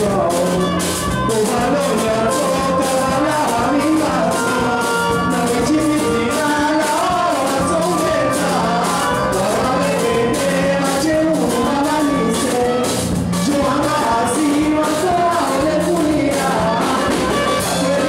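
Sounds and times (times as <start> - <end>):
band playing steady beat: 0.0 - 18.0
man singing into a microphone: 0.0 - 18.0.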